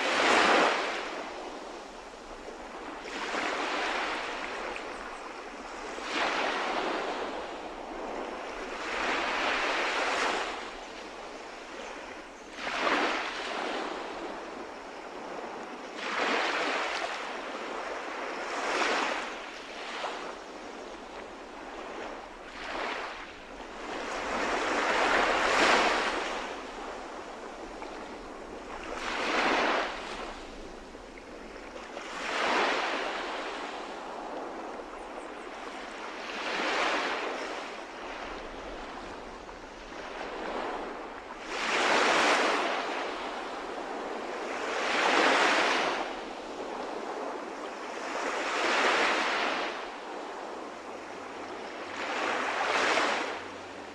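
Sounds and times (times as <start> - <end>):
sea waves breaking on shore: 0.0 - 53.9.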